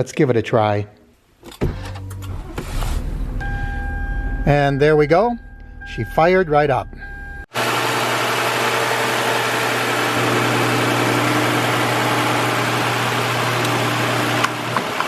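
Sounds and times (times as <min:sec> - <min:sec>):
car engine running: 0:01.6 - 0:15.0.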